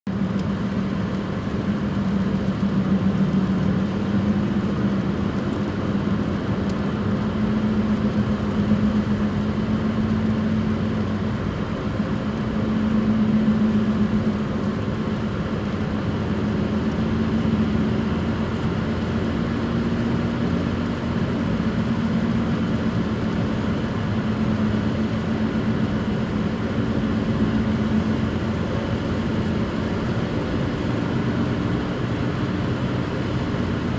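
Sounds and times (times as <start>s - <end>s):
wheel bearing roaring drone: 0.1s - 33.9s.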